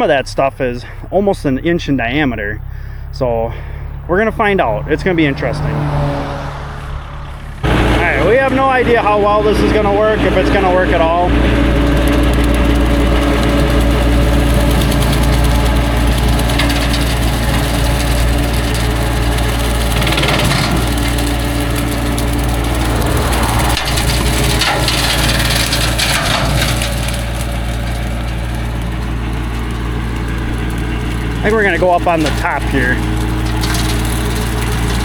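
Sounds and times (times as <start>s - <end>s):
rotary cutter crackling brush: 0.0s - 35.0s
tractor engine under load: 0.0s - 35.0s.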